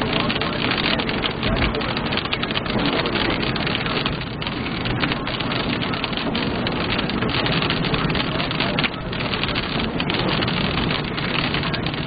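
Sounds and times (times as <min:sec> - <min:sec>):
heavy rain on car windshield: 0:00.0 - 0:12.0
tyres rumbling on wet road: 0:00.0 - 0:12.0.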